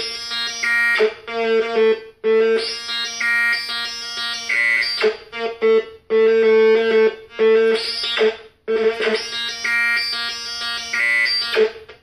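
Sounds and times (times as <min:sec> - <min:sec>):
buzzy synthesizer pattern: 0:00.0 - 0:11.8.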